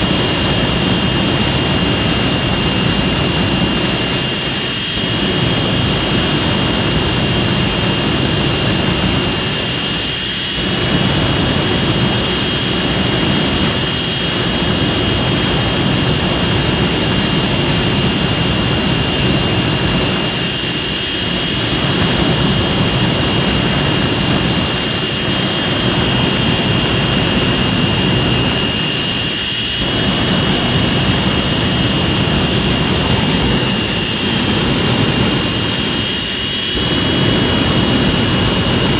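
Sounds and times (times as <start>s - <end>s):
high whining tones: 0.0s - 38.9s
jet engine roaring: 0.0s - 38.9s.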